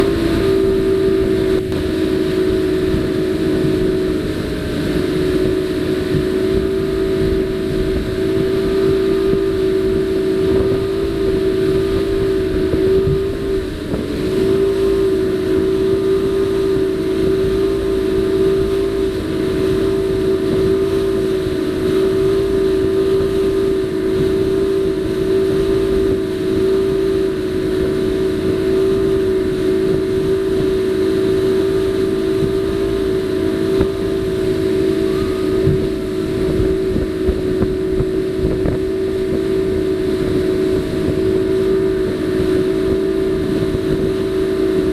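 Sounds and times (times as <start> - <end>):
motorboat engine running hard: 0.0 - 44.9
rushing water noise: 0.0 - 44.9.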